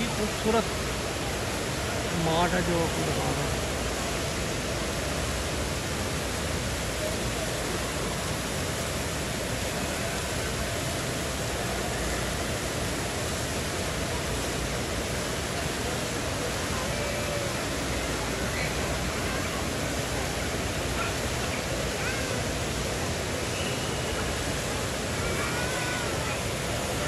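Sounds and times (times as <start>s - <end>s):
fountain water splashing: 0.0s - 27.0s.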